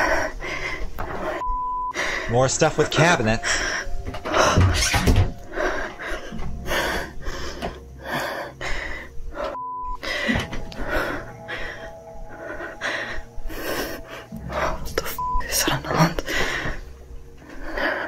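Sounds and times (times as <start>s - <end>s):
woman breathing heavily: 0.0s - 2.4s, 3.4s - 18.0s.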